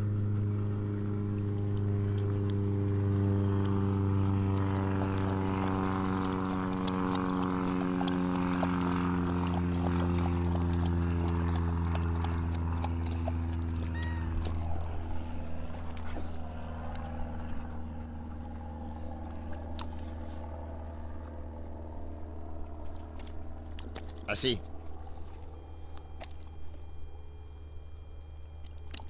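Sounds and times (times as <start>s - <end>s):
motor droning: 0.0s - 29.0s.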